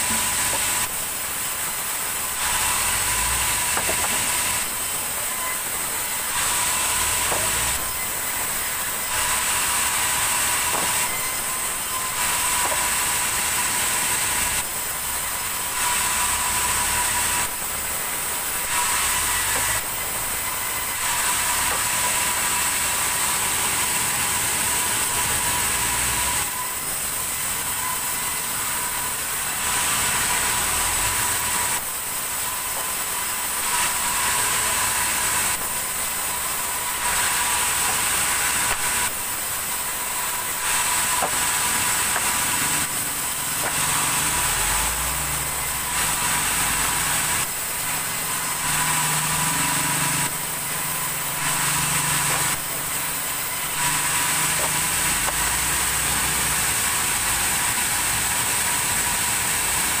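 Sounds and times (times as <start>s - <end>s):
band saw cutting log: 0.0s - 60.0s
high saw whine: 0.0s - 60.0s.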